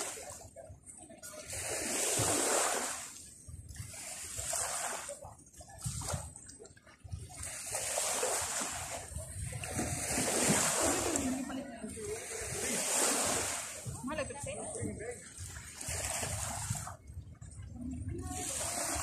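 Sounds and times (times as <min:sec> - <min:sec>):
sea waves washing on beach: 0:00.0 - 0:19.0.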